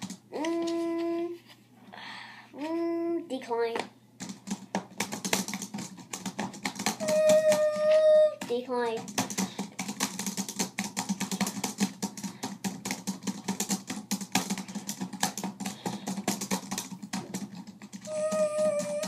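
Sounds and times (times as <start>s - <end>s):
laptop keyboard typing: 0.0s - 1.0s, 4.2s - 19.0s.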